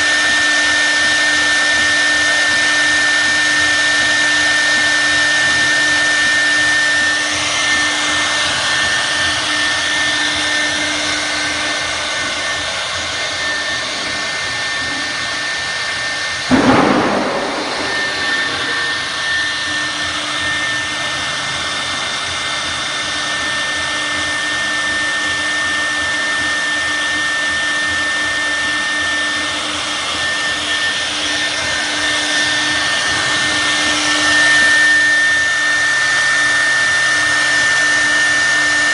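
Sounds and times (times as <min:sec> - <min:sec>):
wood router whining: 0:00.0 - 0:38.9.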